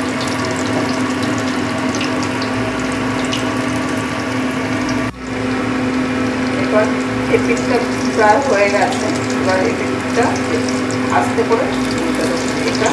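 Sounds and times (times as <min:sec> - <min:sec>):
low steady hum: 0:00.0 - 0:12.9
patties sizzling in hot oil: 0:00.0 - 0:12.9.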